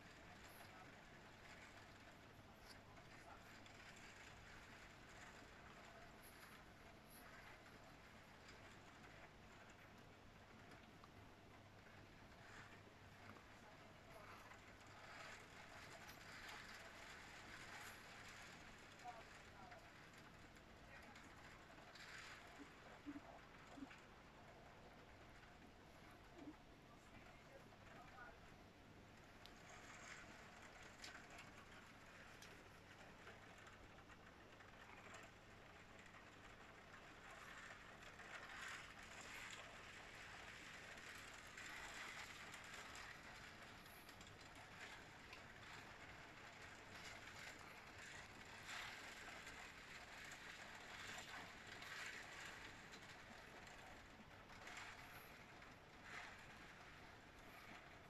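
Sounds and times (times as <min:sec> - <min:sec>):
heavy rain through a window: 0:00.0 - 0:58.0
raindrops ticking on glass: 0:00.0 - 0:58.0.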